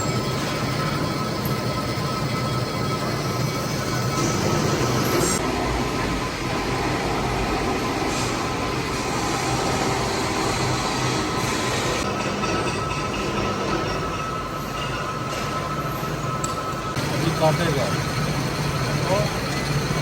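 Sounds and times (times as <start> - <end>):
metal lathe running: 0.0 - 20.0.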